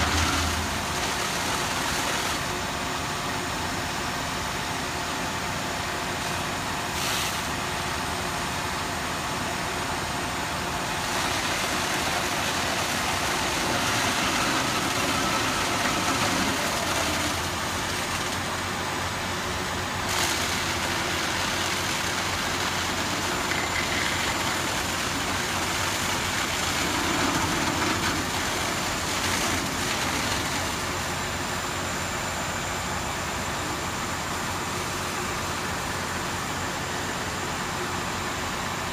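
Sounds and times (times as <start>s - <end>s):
fire engine running: 0.0s - 38.9s.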